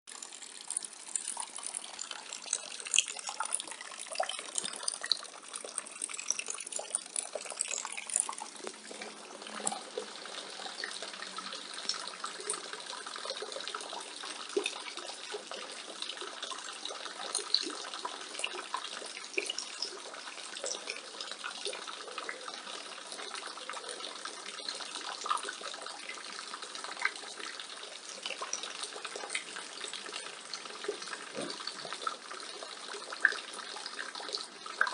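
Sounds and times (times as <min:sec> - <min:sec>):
rainwater pouring from gutter: 0:00.1 - 0:34.9
water drips and splashes: 0:00.1 - 0:34.9.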